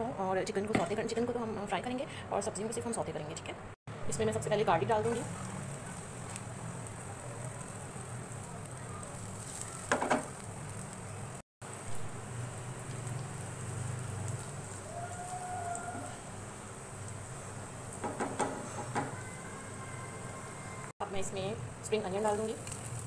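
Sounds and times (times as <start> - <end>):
garlic sizzling in hot oil: 4.3 - 23.0.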